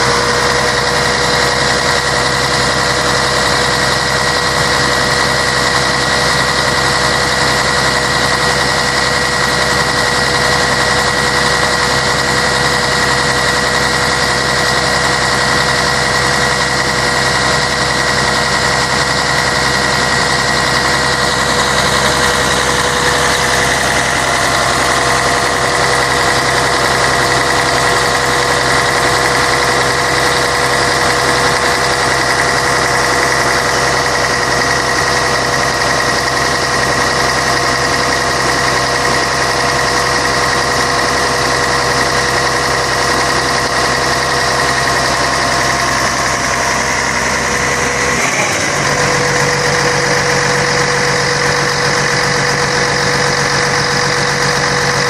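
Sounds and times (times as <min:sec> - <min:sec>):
bus diesel engine running: 0:00.0 - 0:55.0
constant whine: 0:00.0 - 0:55.0.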